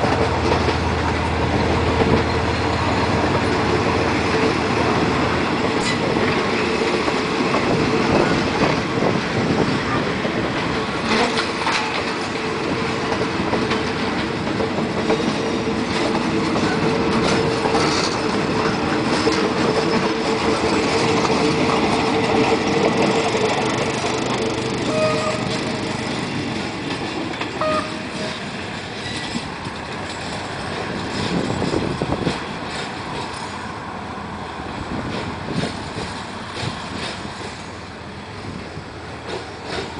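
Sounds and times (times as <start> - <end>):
train wheels clattering over rail joints: 0.0 - 33.8, 34.8 - 39.9.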